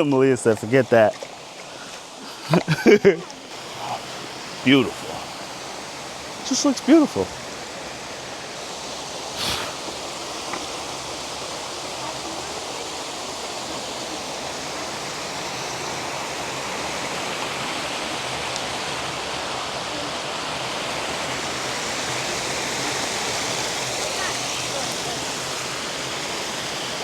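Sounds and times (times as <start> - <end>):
creek water over rocks: 0.0 - 27.0.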